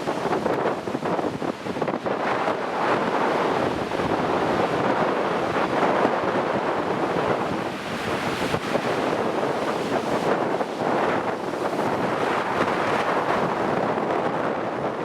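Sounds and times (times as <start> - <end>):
gusty wind on microphone: 0.0 - 15.0
surf: 0.0 - 15.0.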